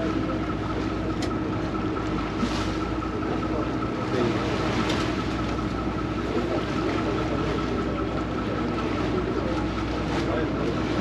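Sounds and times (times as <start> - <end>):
boat diesel engine droning: 0.0 - 11.0
water wash noise: 0.0 - 11.0.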